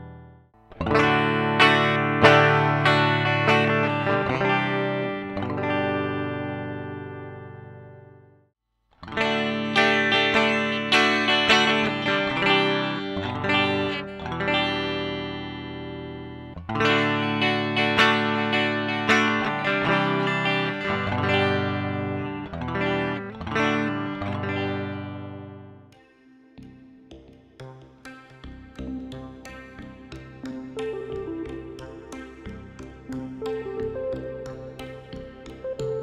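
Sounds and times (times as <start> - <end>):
electric guitar sustained notes: 0.0 - 8.4, 9.0 - 25.8, 28.4 - 36.0.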